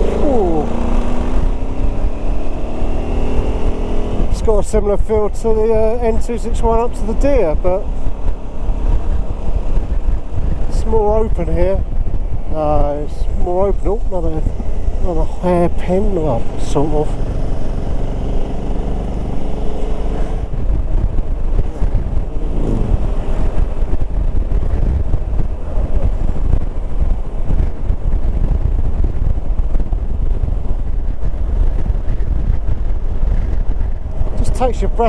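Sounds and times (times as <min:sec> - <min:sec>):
motorcycle engine: 0:00.0 - 0:35.0
wind and road noise: 0:00.0 - 0:35.0.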